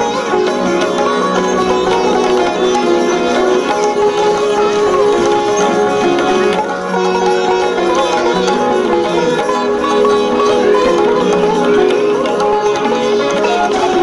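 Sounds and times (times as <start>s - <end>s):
instrumental melody over drone: 0.0s - 14.0s.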